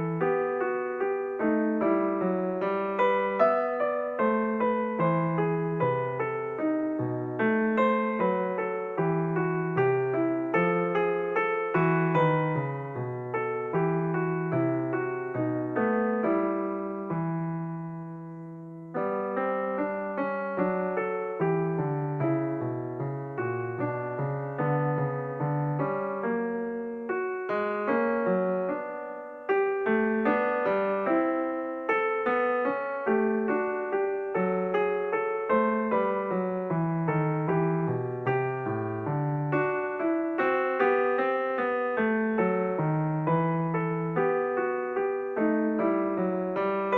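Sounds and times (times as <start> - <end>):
solo piano music: 0.0 - 46.9.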